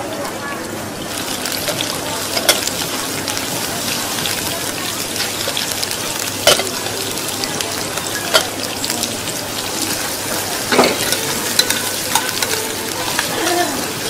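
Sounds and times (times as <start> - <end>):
food sizzling in pans: 0.0 - 14.0.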